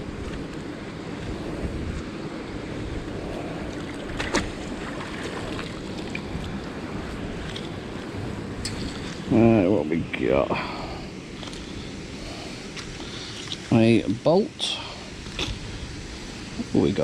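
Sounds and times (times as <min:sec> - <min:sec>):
wind noise on microphone: 0:00.0 - 0:14.2, 0:15.0 - 0:17.0.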